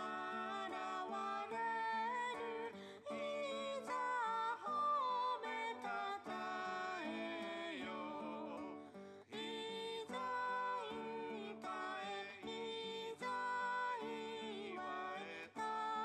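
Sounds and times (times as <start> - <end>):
song with acoustic guitar: 0.0 - 16.0.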